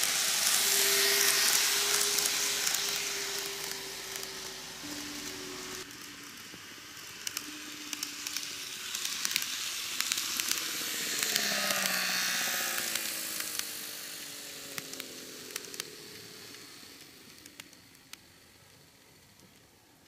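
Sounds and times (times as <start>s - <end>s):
model train motor whine: 0.0s - 20.0s
model train wheels hissing on rail: 0.0s - 20.0s.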